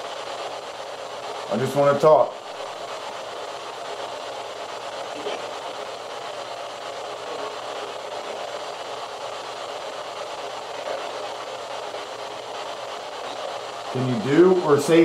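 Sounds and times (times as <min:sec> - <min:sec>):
steady static hiss: 0:00.0 - 0:15.0.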